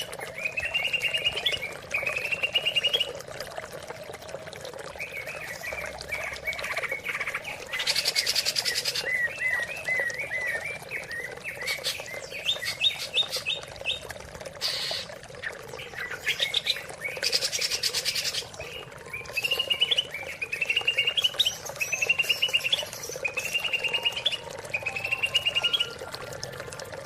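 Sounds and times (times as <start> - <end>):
bird singing trilled phrases: 0.0 - 3.2, 5.0 - 26.4
faint natural background: 0.0 - 27.0.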